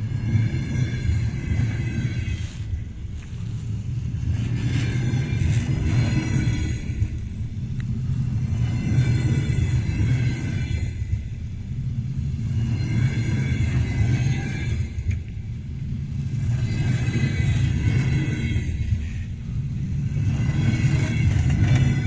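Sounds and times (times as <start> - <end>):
rushing of passing train cars: 0.0 - 22.0
train wheels rumbling on rails: 0.0 - 22.0.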